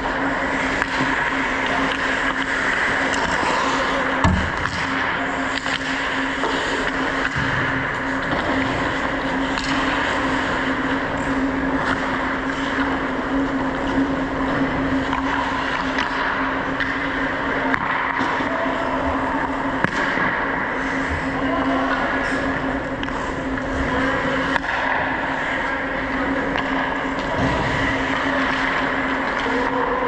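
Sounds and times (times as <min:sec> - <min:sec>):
hockey sticks and puck clacking: 0:00.0 - 0:30.0
steady low hum: 0:00.0 - 0:30.0.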